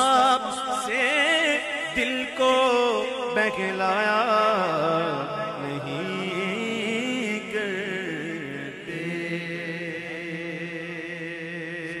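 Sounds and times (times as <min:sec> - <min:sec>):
man singing devotional song: 0:00.0 - 0:12.0.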